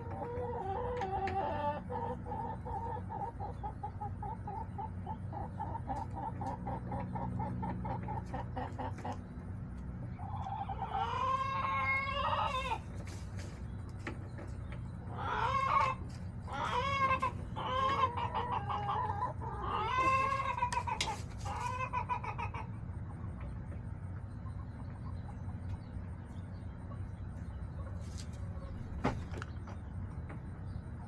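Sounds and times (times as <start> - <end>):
chickens calling: 0.0 - 31.0
steady low hum: 0.0 - 31.0.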